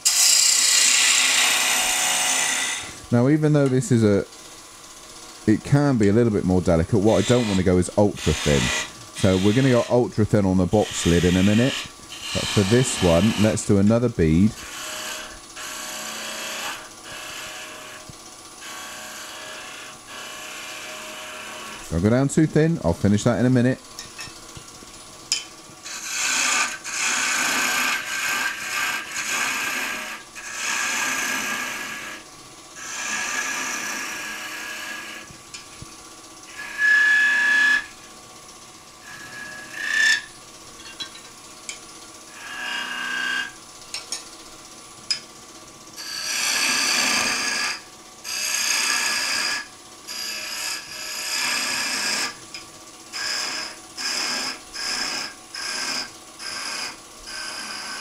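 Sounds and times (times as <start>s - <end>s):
lathe tool rasping wood: 0.0s - 4.3s, 5.4s - 23.8s, 25.8s - 32.2s, 32.8s - 35.4s, 36.5s - 38.0s, 39.0s - 40.3s, 42.3s - 43.6s, 46.0s - 52.5s, 53.1s - 58.0s.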